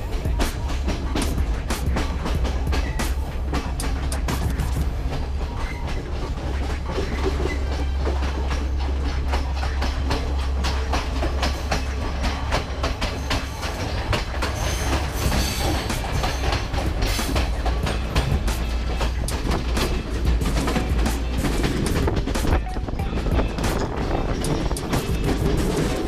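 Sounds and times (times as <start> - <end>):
train rumble and rushing air: 0.0 - 26.0
train wheels clacking: 0.0 - 26.0.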